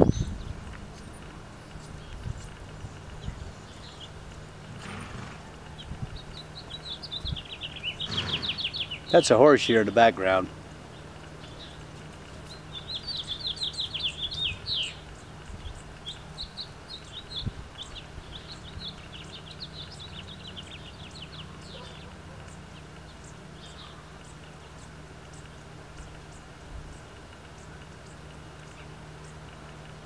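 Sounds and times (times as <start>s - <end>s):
songbird trilling: 0.0s - 29.8s.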